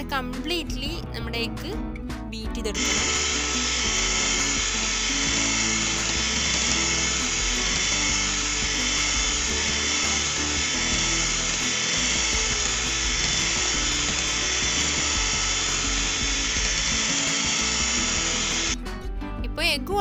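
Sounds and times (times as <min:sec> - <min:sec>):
electric hand mixer whisking: 0:02.7 - 0:18.9.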